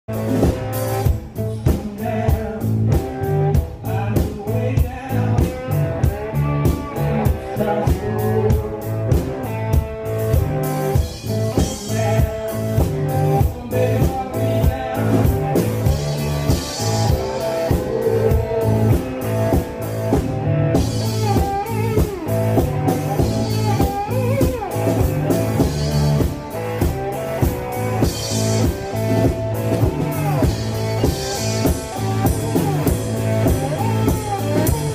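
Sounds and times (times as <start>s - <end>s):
drum kit beat: 0.1s - 34.9s
electric guitar riff: 0.1s - 34.9s.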